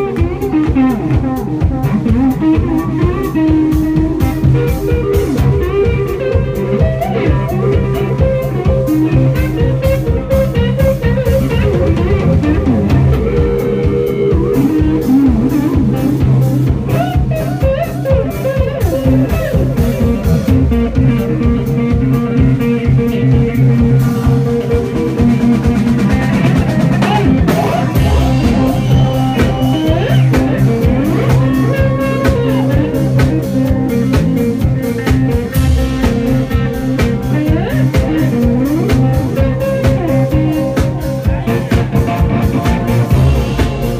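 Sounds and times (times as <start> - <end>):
drum kit: 0.0 - 43.9
electric bass: 0.0 - 43.9
electric guitar lead lines: 0.0 - 43.9.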